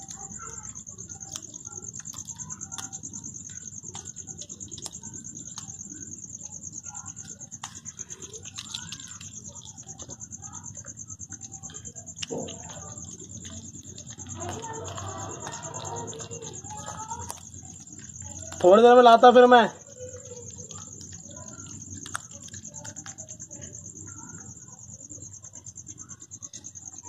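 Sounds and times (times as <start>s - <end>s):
cat chewing meat: 0.0s - 19.0s, 19.8s - 27.0s
crickets trilling: 0.0s - 27.0s.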